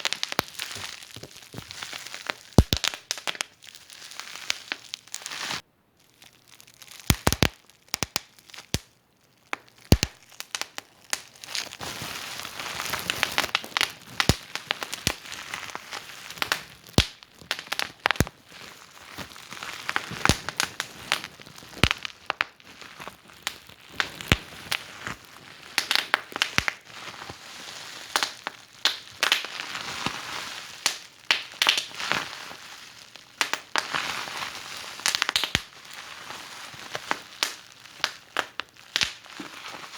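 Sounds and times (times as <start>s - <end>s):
wood fire crackling: 0.0s - 5.6s, 6.4s - 27.4s, 28.0s - 36.1s, 36.7s - 39.6s.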